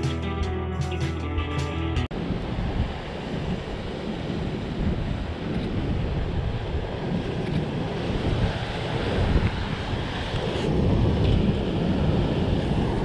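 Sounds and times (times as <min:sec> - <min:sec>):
wind buffeting microphone: 0:02.1 - 0:13.0
waves washing against rocks: 0:02.4 - 0:13.0.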